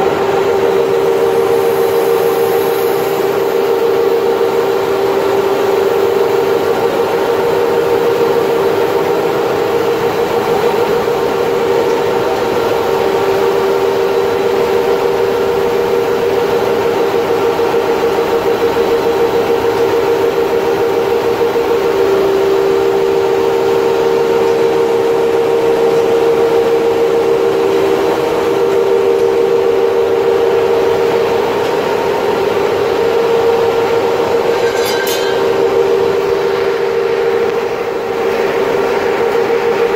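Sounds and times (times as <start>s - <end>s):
factory machinery droning: 0.0s - 39.9s
machine hum tones: 0.0s - 39.9s.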